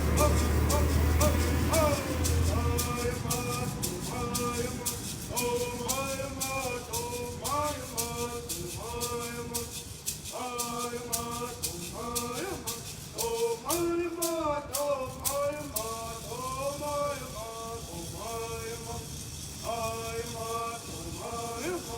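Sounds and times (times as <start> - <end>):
person singing a chant-like song: 0.0 - 21.9
shaken rattle beat: 0.0 - 21.9.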